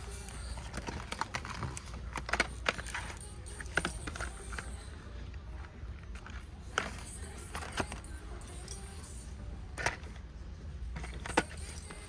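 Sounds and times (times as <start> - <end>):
packages clicking on metal hooks: 0.0 - 5.0, 5.9 - 10.2, 10.9 - 12.0
low steady hum: 0.0 - 12.0.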